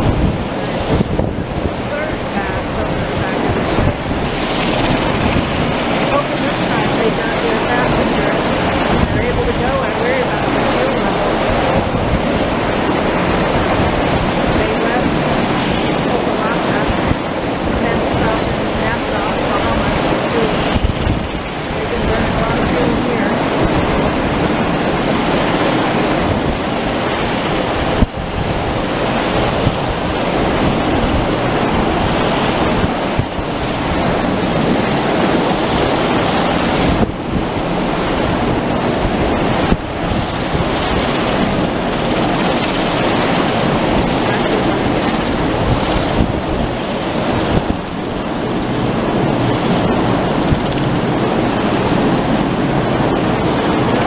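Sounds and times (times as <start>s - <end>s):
helicopter rotor and engine: 0.0s - 54.0s
wind buffeting microphone: 0.0s - 54.0s.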